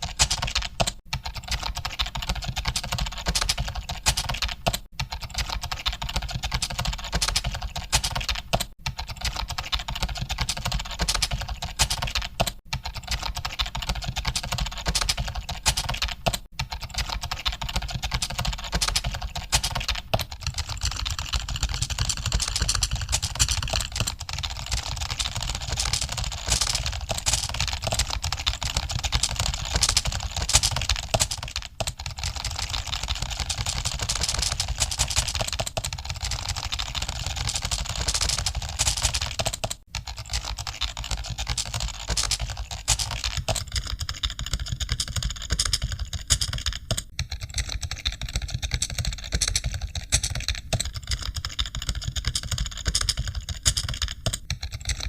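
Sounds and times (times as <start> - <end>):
keyboard typing clatter: 0.0 - 55.0.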